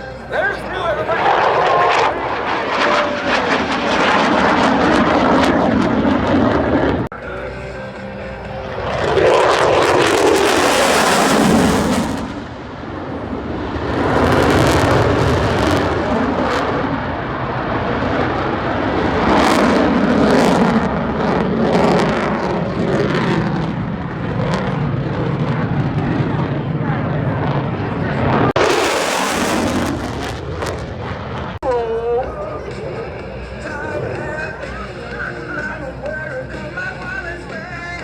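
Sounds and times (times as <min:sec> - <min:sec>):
fighter jet roaring: 0:00.0 - 0:38.0.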